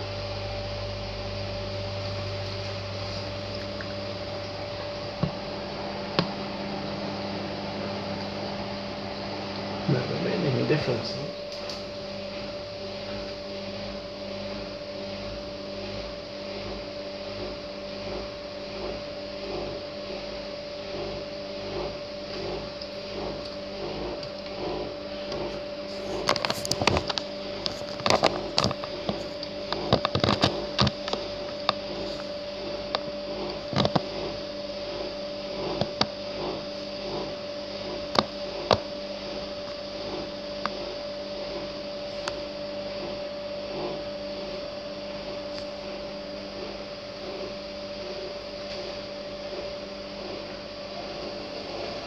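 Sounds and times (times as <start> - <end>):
washing machine humming: 0.0 - 52.0.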